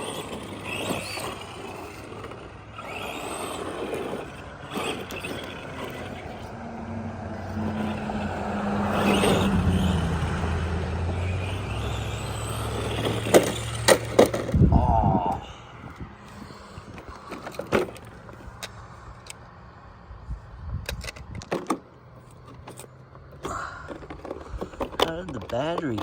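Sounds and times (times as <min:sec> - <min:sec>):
toy truck electric motor running: 0:00.0 - 0:14.7, 0:15.3 - 0:19.4, 0:21.6 - 0:26.0.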